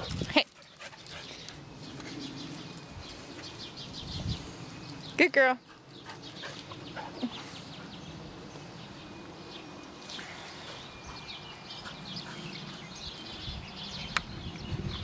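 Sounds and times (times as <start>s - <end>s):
low outdoor background hum: 0.0s - 15.0s
small birds chirping: 0.0s - 15.0s.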